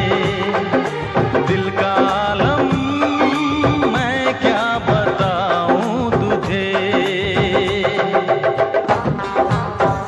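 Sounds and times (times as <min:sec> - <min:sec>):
film song music with beat: 0:00.0 - 0:10.0
person singing: 0:00.0 - 0:10.0.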